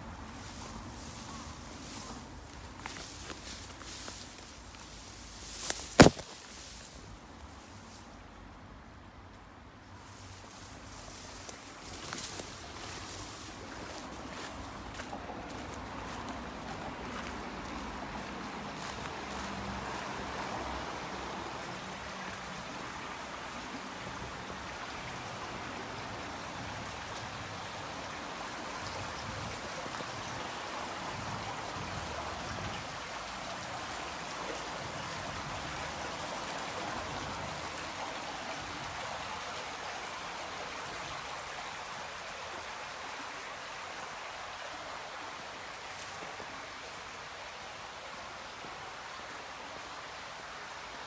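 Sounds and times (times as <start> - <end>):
river water rushing: 9.6 - 51.0.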